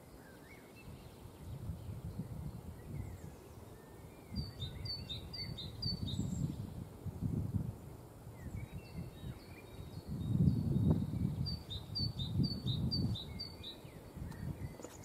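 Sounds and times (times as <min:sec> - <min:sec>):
songbirds chirping: 0:00.0 - 0:15.0
wind rumble on microphone: 0:00.0 - 0:15.0.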